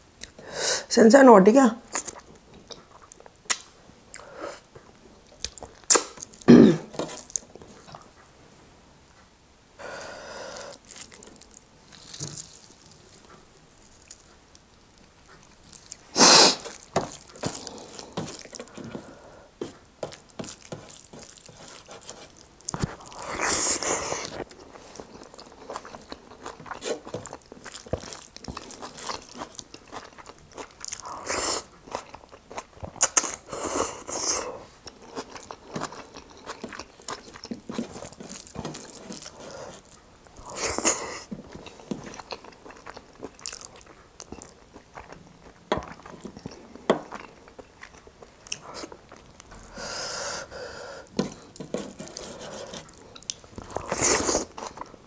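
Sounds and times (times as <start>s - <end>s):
close-up chewing and crunching: 1.9s - 8.2s, 10.5s - 55.0s.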